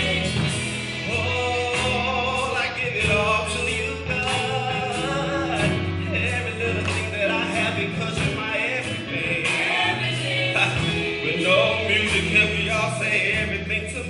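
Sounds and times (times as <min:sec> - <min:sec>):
backing singers: 0:00.0 - 0:13.8
live gospel music with band: 0:00.0 - 0:14.0
man singing lead: 0:00.0 - 0:14.0.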